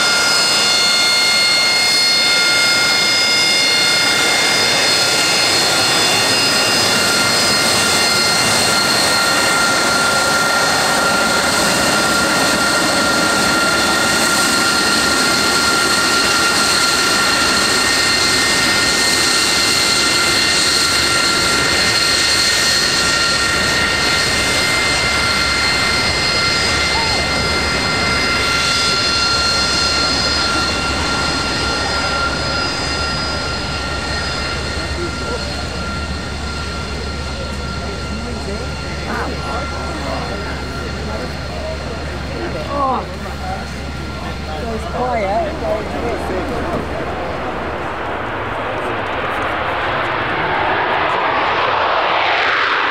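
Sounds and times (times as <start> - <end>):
jet engine rush and whine: 0.0 - 52.9.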